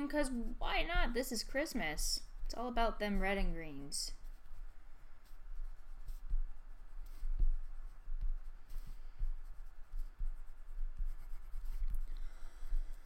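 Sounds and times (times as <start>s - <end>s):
oil pastel rubbing on paper: 0.0s - 13.0s
pastel stick tapping paper: 1.9s - 13.0s.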